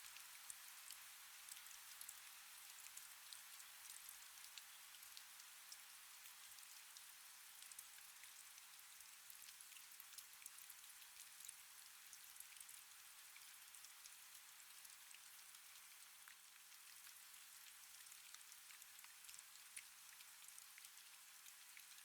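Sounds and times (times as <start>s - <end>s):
faint steady rain: 0.0s - 22.0s.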